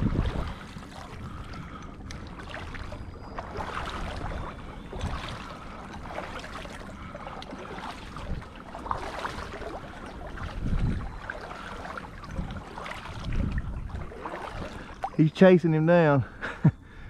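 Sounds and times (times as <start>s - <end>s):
wind rumble on microphone: 0.0s - 15.2s
water sloshing and splashing: 0.0s - 16.4s.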